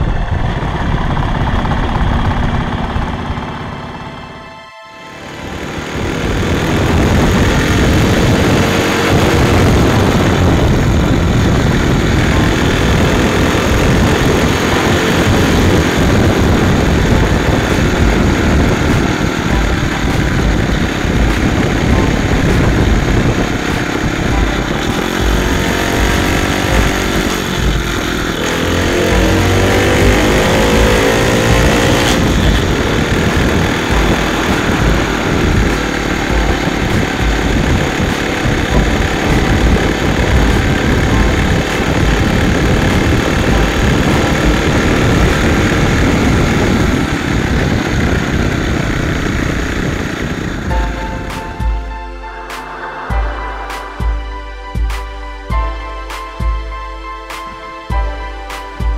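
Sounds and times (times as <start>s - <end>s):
wind buffeting microphone: 0.0s - 4.3s, 5.2s - 52.3s
motorcycle engine running: 0.0s - 4.4s, 5.0s - 52.1s.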